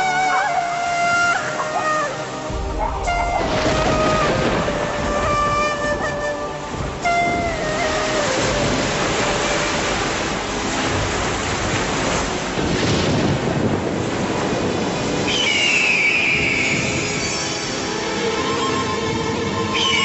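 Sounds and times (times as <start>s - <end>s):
waves: 0.0s - 20.0s
wind: 0.0s - 20.0s.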